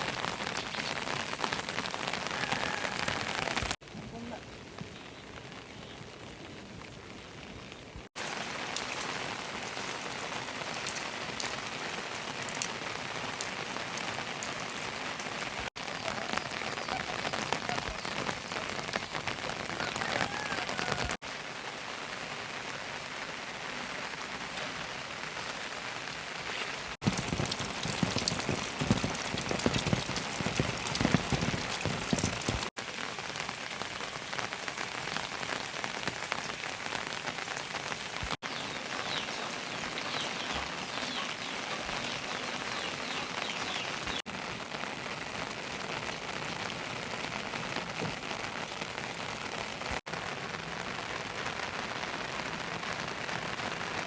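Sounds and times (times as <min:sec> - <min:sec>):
individual raindrops hitting: 0:00.0 - 0:54.0
heavy rain hissing: 0:08.2 - 0:54.0.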